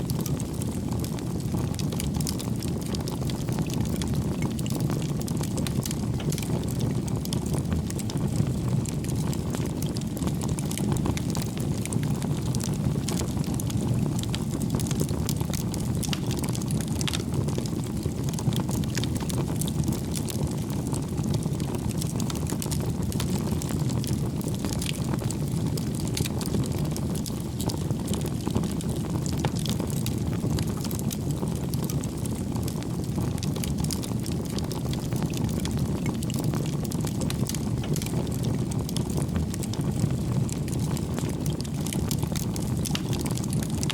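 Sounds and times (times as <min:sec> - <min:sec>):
burning logs crackling and popping: 0:00.0 - 0:43.9
fire flames rumbling: 0:00.0 - 0:43.9.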